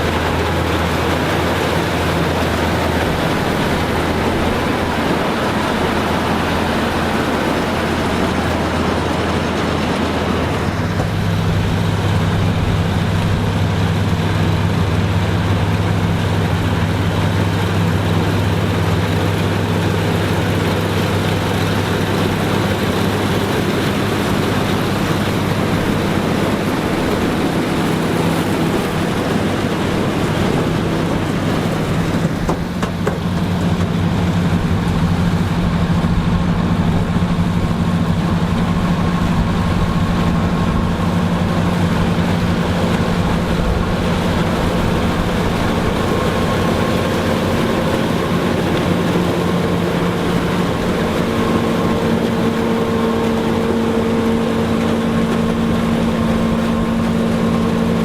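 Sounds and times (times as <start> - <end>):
farm machinery engine running: 0.0 - 58.0.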